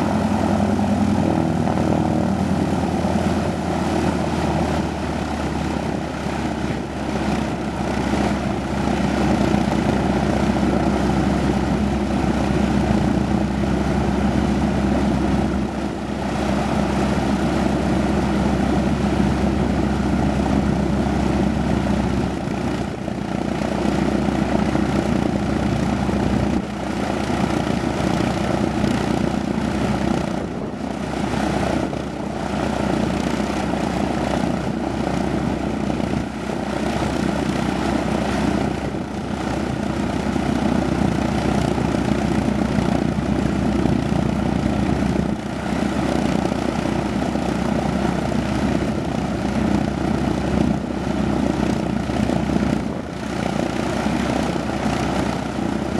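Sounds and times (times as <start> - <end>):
propeller aircraft engine drone: 0.0 - 55.9.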